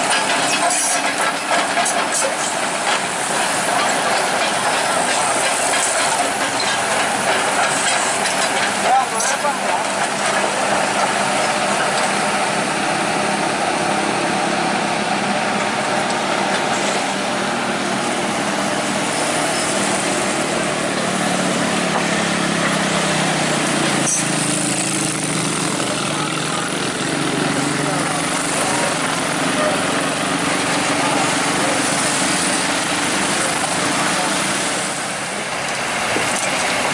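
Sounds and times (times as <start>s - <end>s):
excavator diesel engine running: 0.0s - 36.9s
road traffic: 0.0s - 36.9s.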